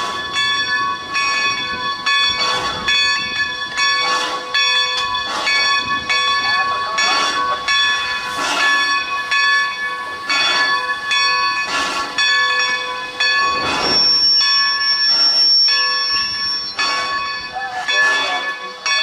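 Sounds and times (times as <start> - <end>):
locomotive bell ringing: 0.0 - 19.0.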